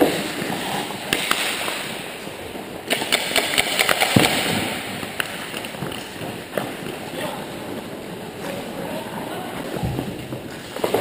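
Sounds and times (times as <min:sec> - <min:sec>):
hockey stick and puck clacks: 0:00.0 - 0:08.8, 0:09.6 - 0:11.0
skates scraping on ice: 0:00.0 - 0:11.0.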